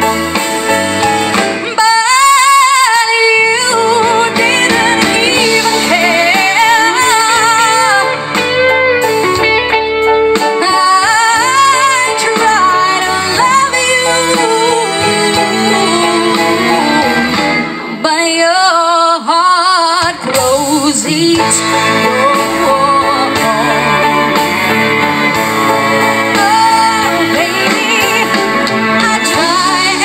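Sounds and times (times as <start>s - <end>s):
bass: 0.0s - 30.0s
guitar: 0.0s - 30.0s
woman singing with vibrato: 1.6s - 8.4s, 10.5s - 24.6s, 25.9s - 30.0s.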